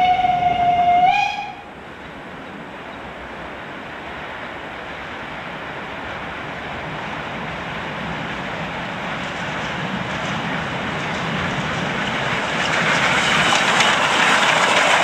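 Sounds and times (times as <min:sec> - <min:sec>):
steam locomotive exhaust rushing: 0:00.0 - 0:15.0.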